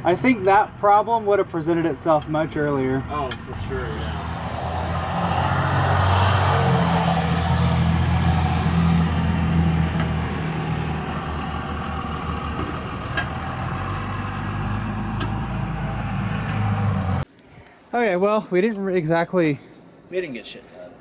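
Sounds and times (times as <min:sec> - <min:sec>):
vehicle engine humming: 0:00.0 - 0:17.2.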